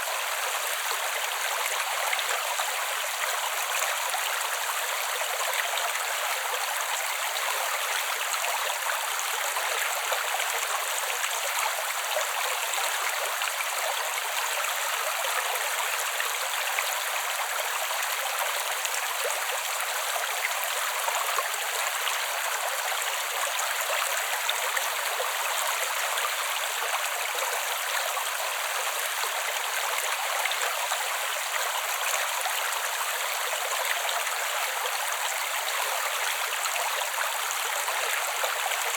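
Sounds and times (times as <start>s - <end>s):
creek water running over rocks: 0.0s - 38.9s.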